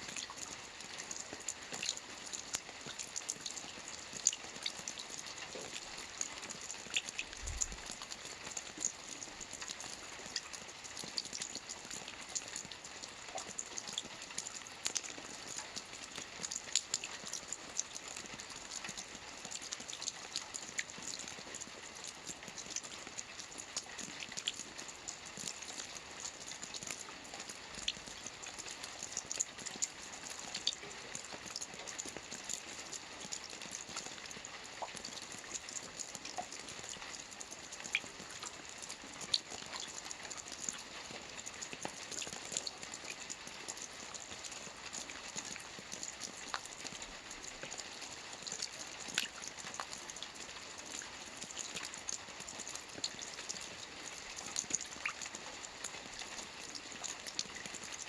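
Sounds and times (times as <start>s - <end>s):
rain falling on water: 0.0s - 58.0s
water drips ticking: 0.1s - 58.0s.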